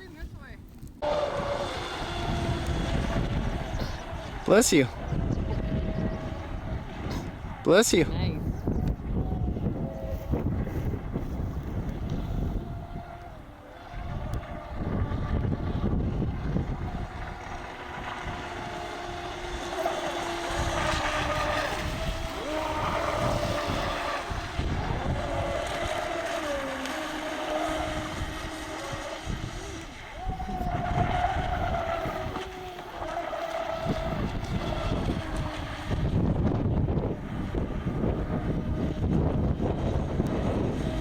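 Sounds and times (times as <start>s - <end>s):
model boat motor whining: 0.0s - 41.0s
wind buffeting microphone: 0.0s - 41.0s.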